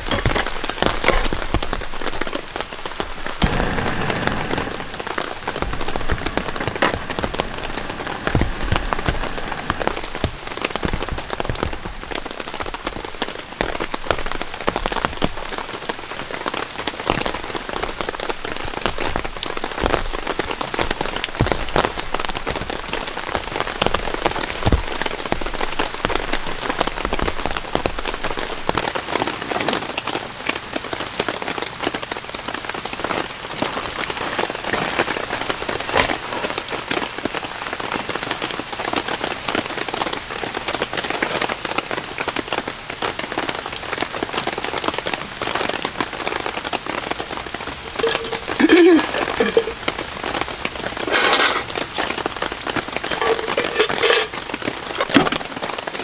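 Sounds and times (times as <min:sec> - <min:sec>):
raindrops tapping close by: 0:00.0 - 0:56.0
steady rain falling: 0:00.0 - 0:56.0.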